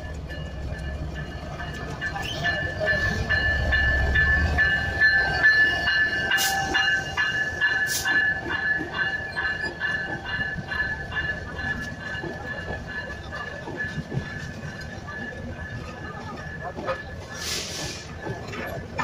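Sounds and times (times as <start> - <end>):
loud train clanks: 0.0 - 19.0.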